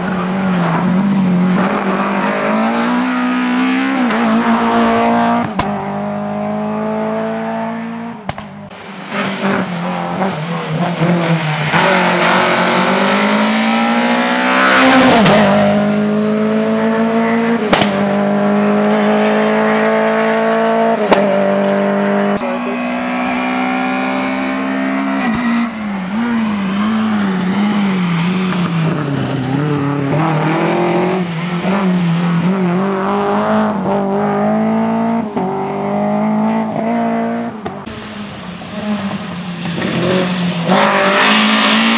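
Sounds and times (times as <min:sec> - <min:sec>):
rally car engine revving: 0:00.0 - 0:41.9.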